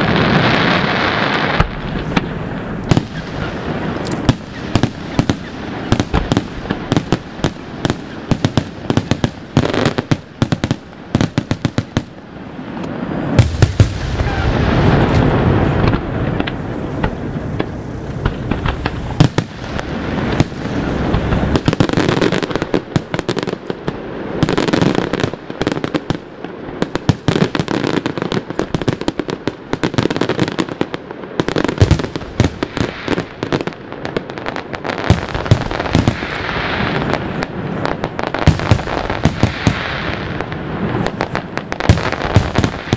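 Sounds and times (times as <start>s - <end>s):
deep rumble of fireworks: 0.0s - 42.9s
fireworks bursting: 0.0s - 42.9s.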